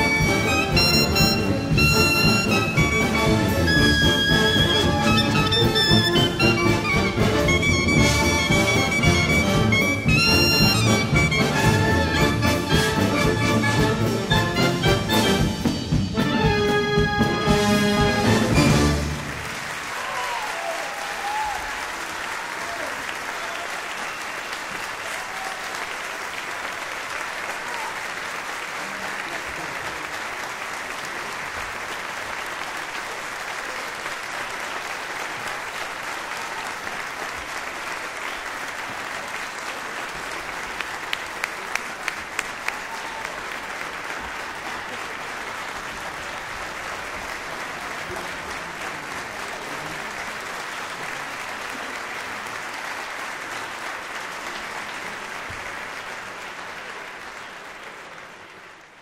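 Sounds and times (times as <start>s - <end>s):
audience applauding: 0.0s - 59.0s.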